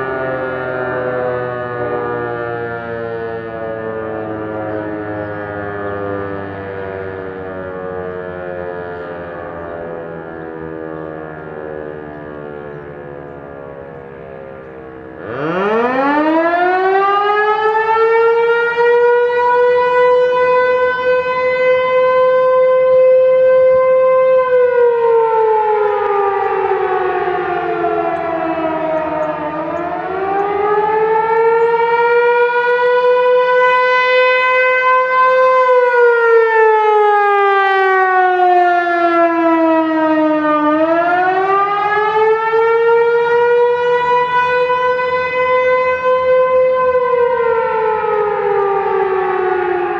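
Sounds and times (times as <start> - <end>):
rotating siren wailing: 0.0 - 49.9.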